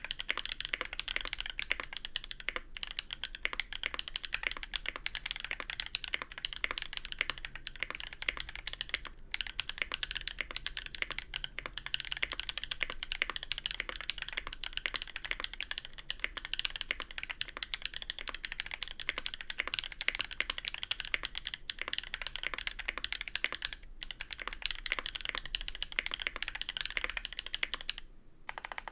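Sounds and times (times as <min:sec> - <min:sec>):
fast mechanical keyboard typing: 0:00.0 - 0:28.9.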